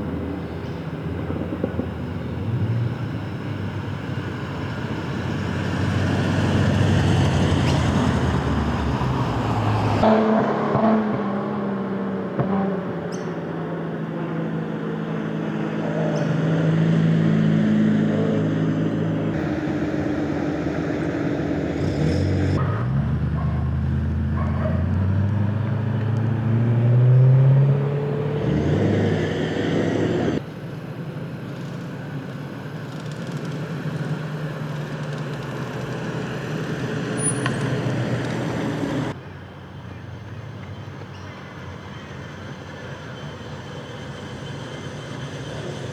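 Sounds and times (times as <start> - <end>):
car engine accelerating: 0.0 - 39.2
car engines running: 0.0 - 45.9.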